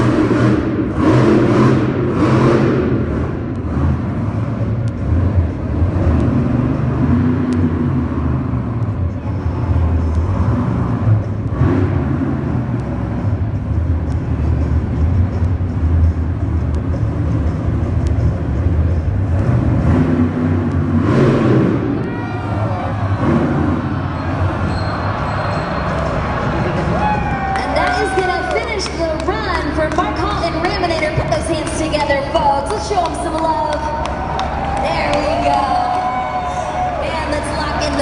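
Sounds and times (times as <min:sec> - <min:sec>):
monster truck engine revving: 0:00.0 - 0:38.0.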